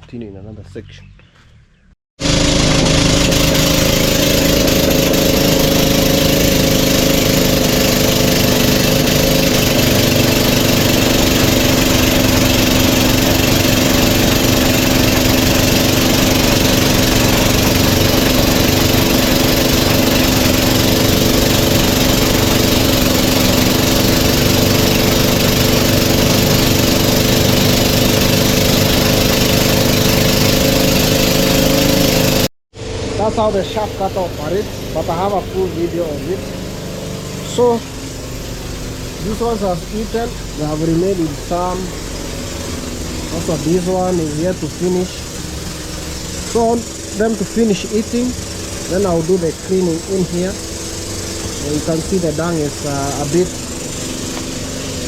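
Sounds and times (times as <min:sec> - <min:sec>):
chaff cutter engine drone: 0:02.2 - 0:55.0.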